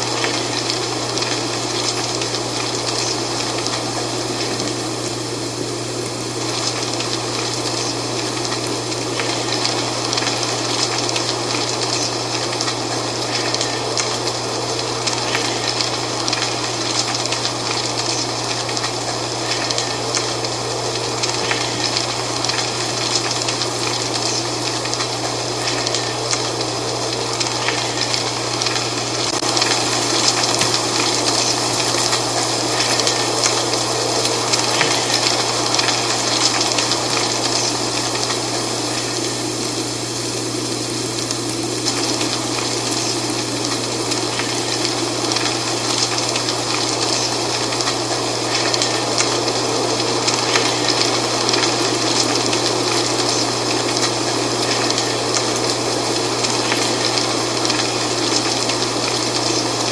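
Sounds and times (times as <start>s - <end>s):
dry leaves rustling in wind: 0.0s - 59.9s.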